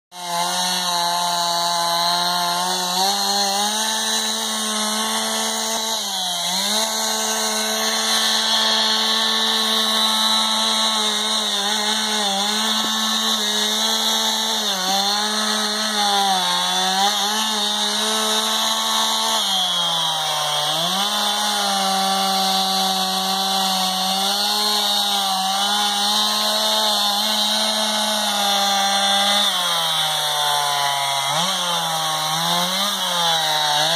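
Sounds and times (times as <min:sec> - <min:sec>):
chainsaw cutting through wood: 0:00.1 - 0:33.9.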